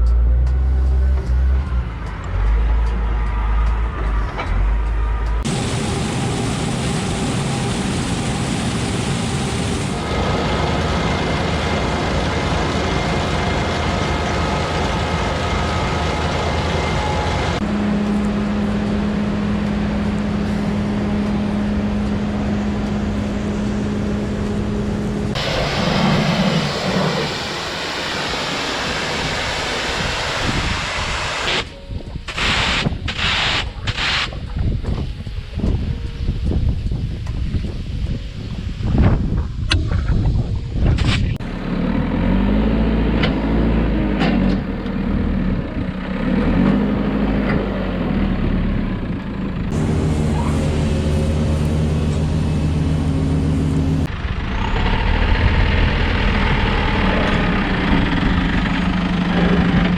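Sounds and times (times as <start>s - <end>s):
heavy farm machinery engines: 0.0s - 59.9s.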